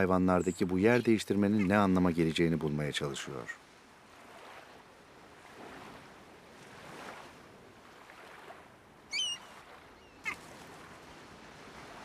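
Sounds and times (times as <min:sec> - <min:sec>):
water lapping: 0:00.0 - 0:12.0.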